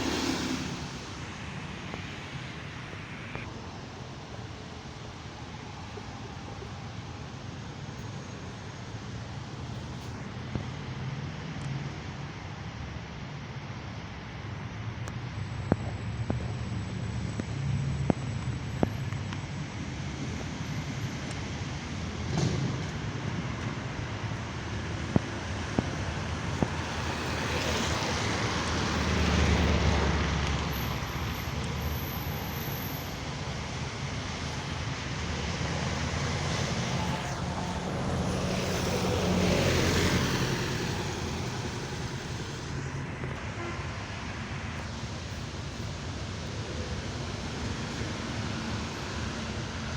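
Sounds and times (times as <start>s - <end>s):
bus engine idling: 0.0s - 10.5s, 13.7s - 49.9s
vehicles passing: 0.0s - 49.9s.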